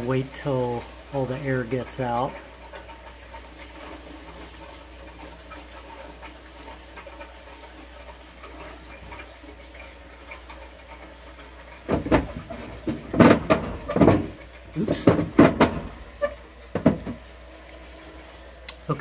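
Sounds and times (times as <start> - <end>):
hot water tap running and spitting: 0.0 - 19.0.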